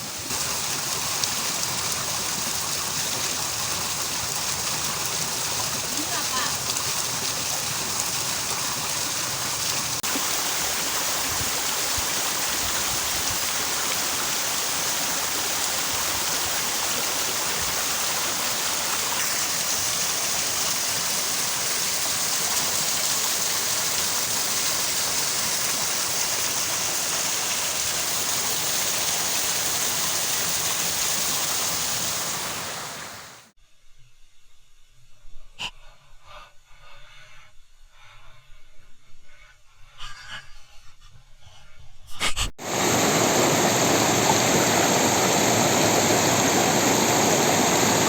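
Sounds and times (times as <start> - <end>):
stream and small waterfall rushing: 0.0 - 33.5, 42.6 - 48.0.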